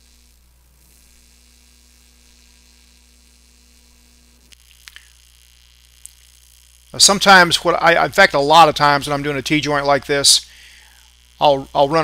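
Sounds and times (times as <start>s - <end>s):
welding arc hum: 0.0s - 12.0s.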